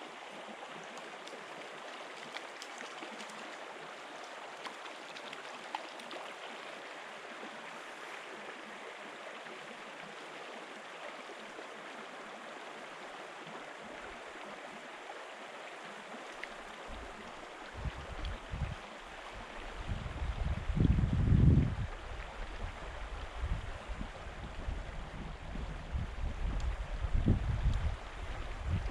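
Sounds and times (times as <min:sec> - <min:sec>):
stream running over stones: 0:00.0 - 0:28.9.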